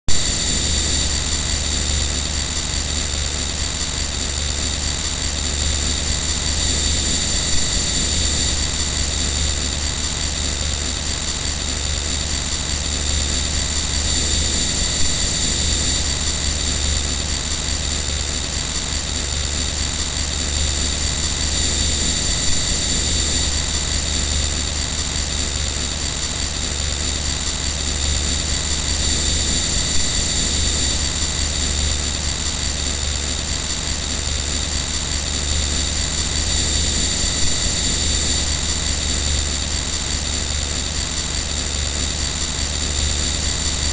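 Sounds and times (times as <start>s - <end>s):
high-pitched machine whines: 0.1s - 43.9s.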